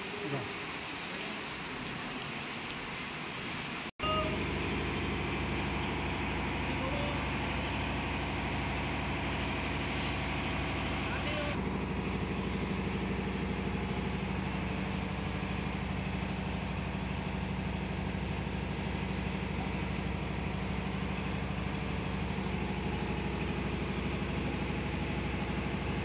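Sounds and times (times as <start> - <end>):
engine idling: 4.0 - 26.0.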